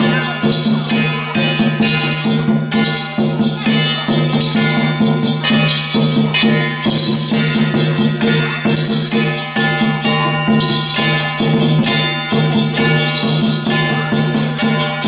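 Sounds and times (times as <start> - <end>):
cymbals clashing: 0.0 - 15.0
drums beating: 0.0 - 15.0.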